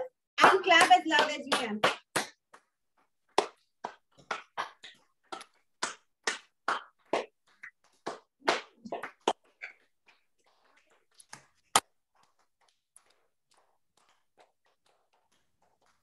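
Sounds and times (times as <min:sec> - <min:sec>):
hands clapping: 0:00.4 - 0:16.0.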